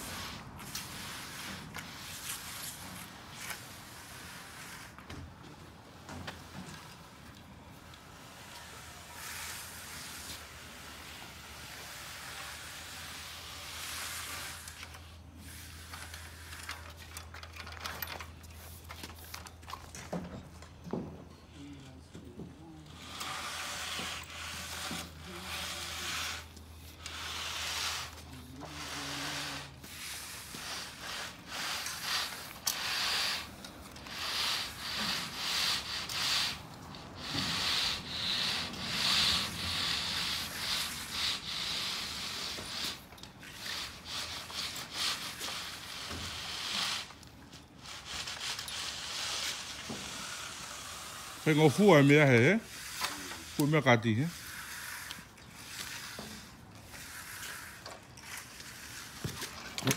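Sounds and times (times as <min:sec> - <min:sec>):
blade scraping wet concrete: 0:00.0 - 0:05.3, 0:06.5 - 0:20.3, 0:22.7 - 0:59.9.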